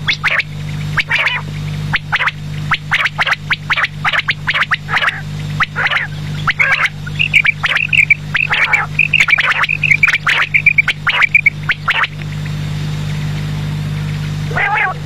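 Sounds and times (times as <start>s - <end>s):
quail calling: 0.0s - 12.5s, 14.5s - 15.0s
steady low hum: 0.0s - 15.0s.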